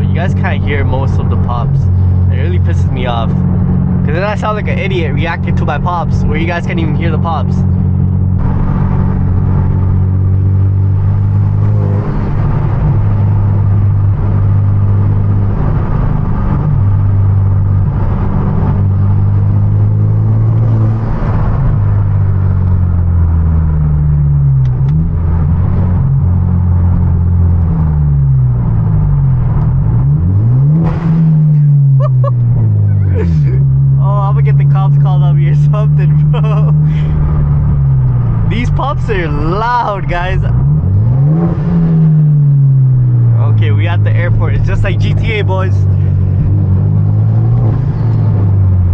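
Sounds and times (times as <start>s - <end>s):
car engine revving: 0.0s - 48.9s
exhaust cracks: 0.0s - 48.9s.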